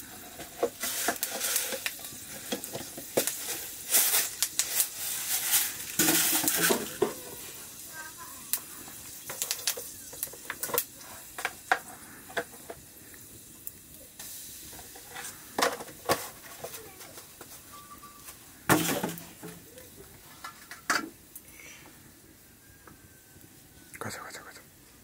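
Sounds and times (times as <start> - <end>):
spices popping in hot oil: 0.0 - 21.7
faint sizzle: 0.0 - 25.0
wood fire crackling: 0.0 - 25.0.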